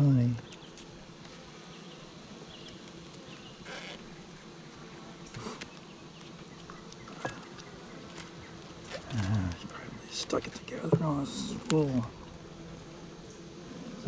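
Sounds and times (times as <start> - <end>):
honeybees humming: 0.0 - 14.0.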